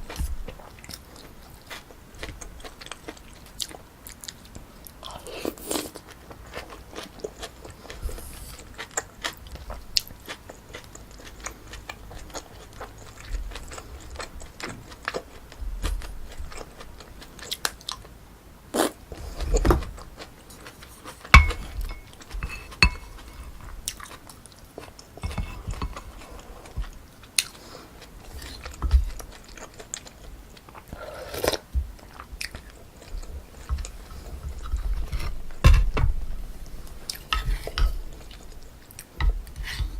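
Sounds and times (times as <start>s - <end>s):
person chewing food: 0.0s - 18.1s, 18.7s - 39.9s.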